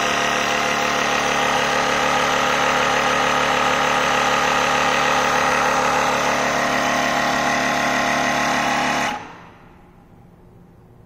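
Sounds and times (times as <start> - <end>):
air compressor running: 0.0 - 10.6.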